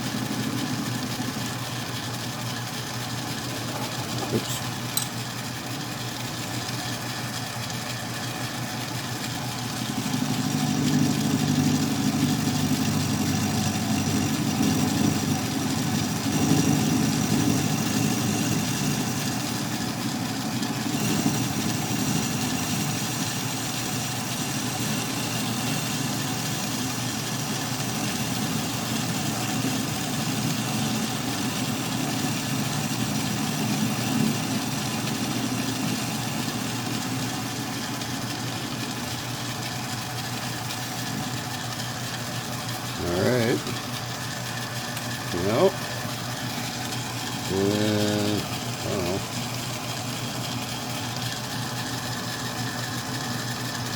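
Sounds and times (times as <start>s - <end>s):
metal lathe running: 0.0s - 53.9s.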